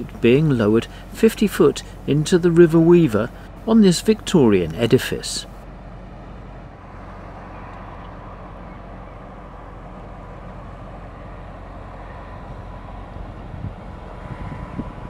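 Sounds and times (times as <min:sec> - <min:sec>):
boat engine droning: 0:00.0 - 0:15.0
faint engine whine: 0:00.0 - 0:15.0.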